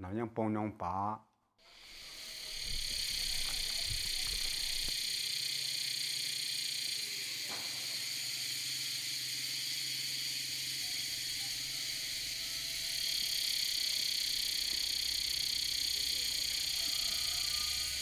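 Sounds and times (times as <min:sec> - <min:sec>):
high-pitched hiss: 0:01.6 - 0:18.0.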